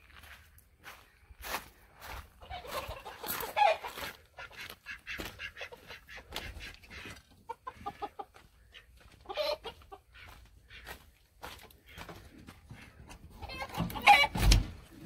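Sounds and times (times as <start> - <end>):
footsteps crunching on wood chips: 0.0 - 13.2
chickens clucking: 2.0 - 15.0.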